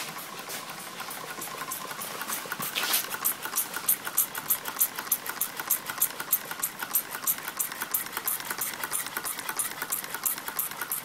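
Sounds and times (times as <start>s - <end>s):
engine linkages clicking: 0.0s - 11.0s.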